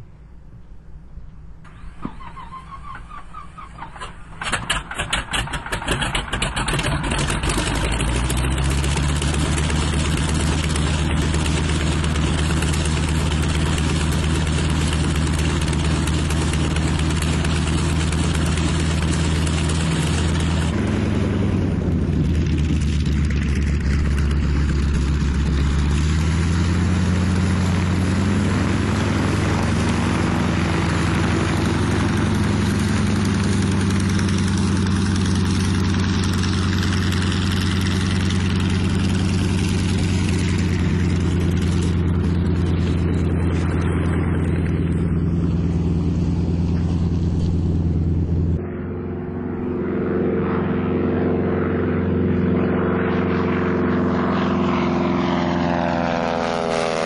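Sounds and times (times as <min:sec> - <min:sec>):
radial aircraft engine drone: 0:00.0 - 0:57.0.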